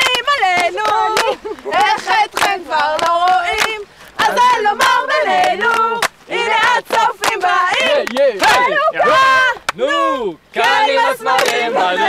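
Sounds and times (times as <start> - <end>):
hand claps: 0.0 - 8.7, 10.6 - 11.8
group chanting and singing: 0.0 - 12.0.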